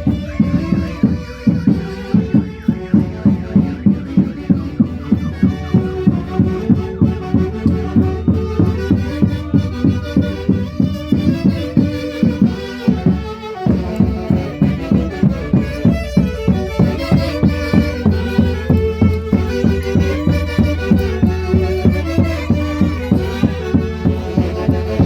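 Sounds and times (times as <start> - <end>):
driving beat: 0.0 - 25.0
folk music with wind instruments: 0.0 - 25.0.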